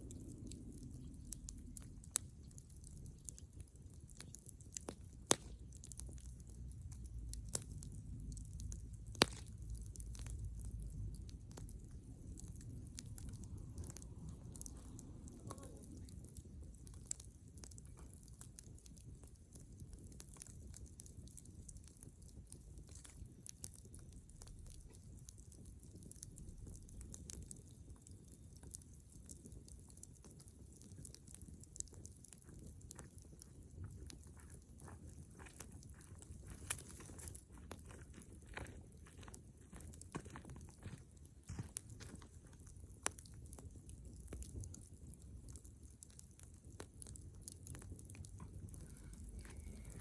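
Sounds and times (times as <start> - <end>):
bonfire crackling and popping: 0.0 - 50.0
low rumble of flames: 0.0 - 50.0.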